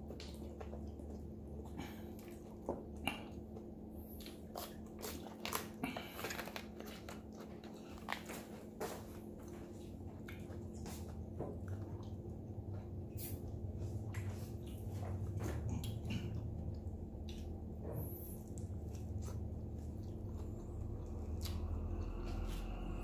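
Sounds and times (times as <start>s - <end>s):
chewing and mouth sounds: 0.0s - 23.0s
steady low hum: 0.0s - 23.0s.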